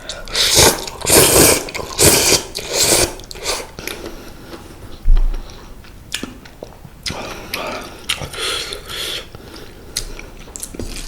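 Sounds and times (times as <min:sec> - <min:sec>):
person slurping and chewing noodles: 0:00.0 - 0:11.0.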